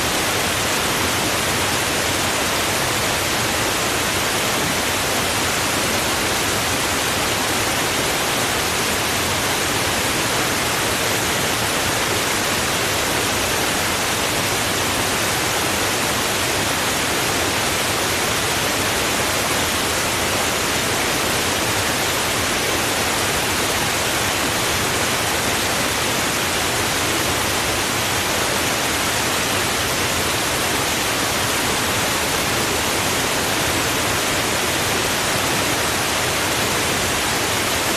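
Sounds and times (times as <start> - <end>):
running water rushing: 0.0 - 37.9.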